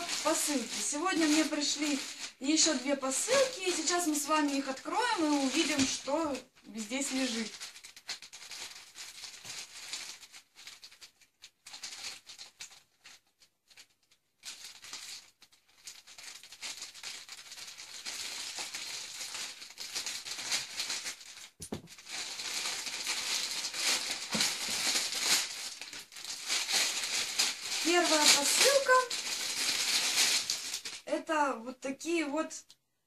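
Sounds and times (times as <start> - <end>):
plastic mailer bag crinkling: 0.0 - 31.1.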